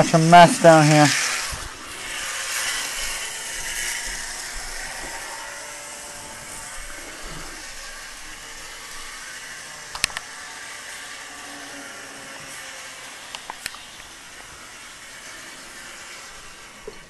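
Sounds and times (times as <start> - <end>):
model train rushing hum: 0.0 - 17.0.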